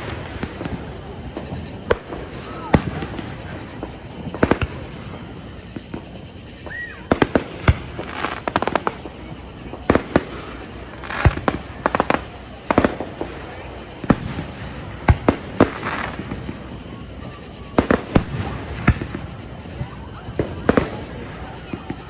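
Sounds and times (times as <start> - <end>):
firework bangs: 0.0 - 22.0
firework crackling: 0.0 - 22.0
firework whistle: 0.0 - 22.0.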